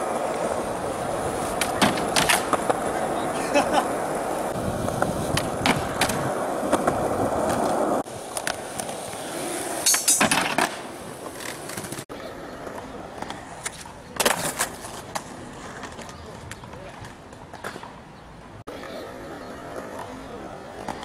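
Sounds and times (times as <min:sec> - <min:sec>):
skateboard clacking on ground: 0:00.0 - 0:18.1, 0:18.7 - 0:21.0
skateboard wheels rolling on concrete: 0:00.0 - 0:21.0.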